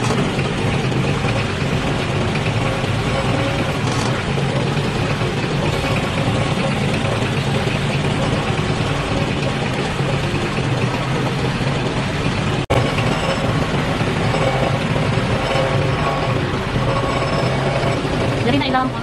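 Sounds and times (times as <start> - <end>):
vehicle engine running low: 0.0 - 19.0.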